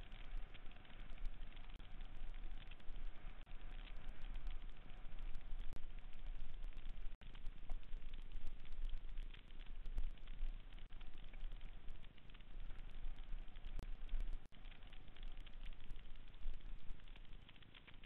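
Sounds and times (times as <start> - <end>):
wind rumble on microphone: 0.0 - 17.6.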